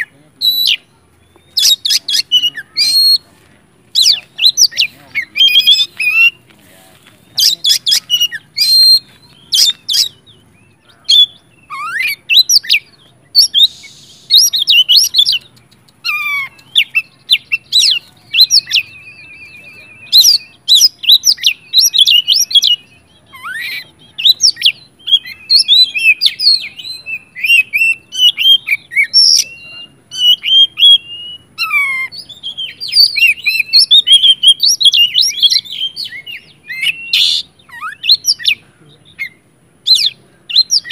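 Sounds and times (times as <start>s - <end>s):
bird singing whistles: 0.0s - 3.2s, 4.0s - 6.4s, 7.3s - 40.9s.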